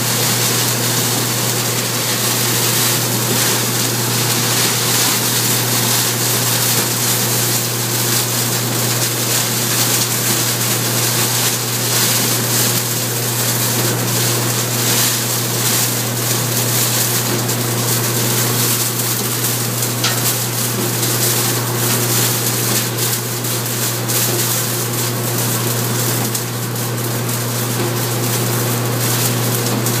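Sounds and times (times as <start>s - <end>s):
shredding machine running: 0.0s - 30.0s.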